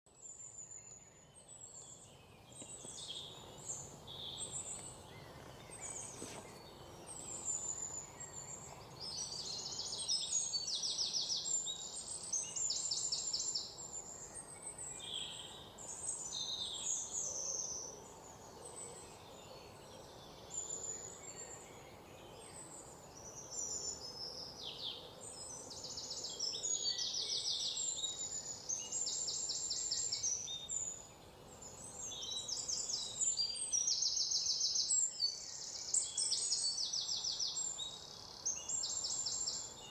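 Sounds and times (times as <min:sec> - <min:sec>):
birds singing and chirping: 0:00.1 - 0:39.9
faint steady background noise: 0:00.1 - 0:39.9.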